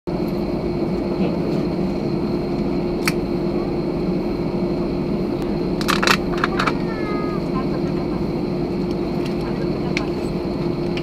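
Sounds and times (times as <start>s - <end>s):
jet engine cabin drone: 0.1s - 11.0s
low hum: 0.1s - 11.0s.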